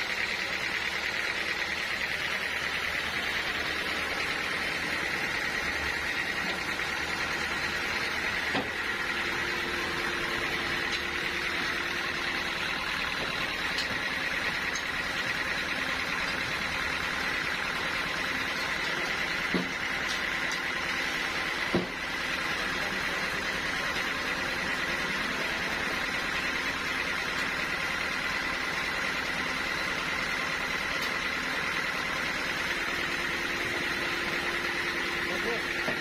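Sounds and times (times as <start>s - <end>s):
sawmill machinery whining: 0.0s - 36.0s.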